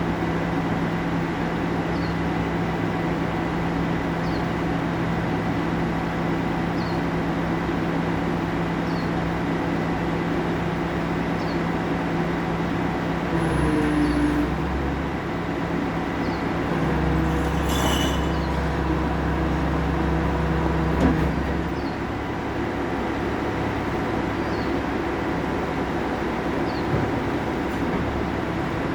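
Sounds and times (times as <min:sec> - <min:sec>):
garbage truck engine running: 0:00.0 - 0:28.9.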